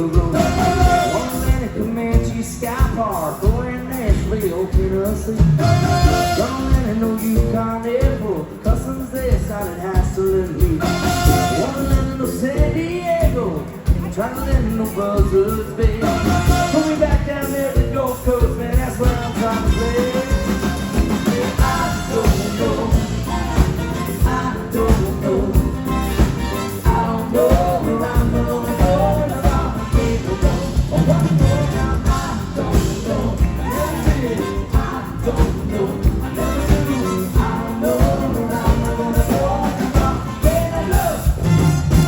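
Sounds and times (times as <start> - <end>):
live band playing rock: 0.0 - 42.0.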